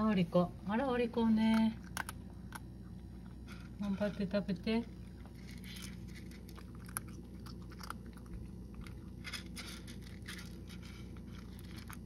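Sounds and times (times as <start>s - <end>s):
cat crunching dry kibble: 1.1s - 12.0s.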